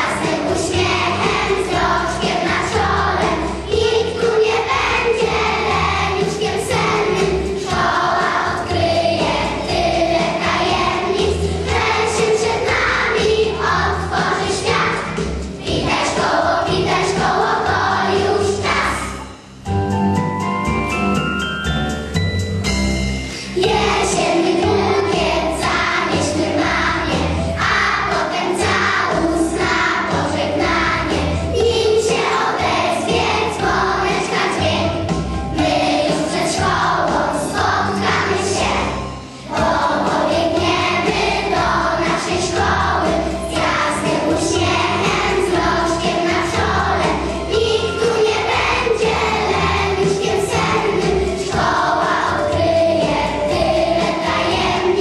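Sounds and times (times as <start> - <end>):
children singing in unison: 0.0 - 19.3, 23.6 - 55.0
instrumental accompaniment: 0.0 - 55.0.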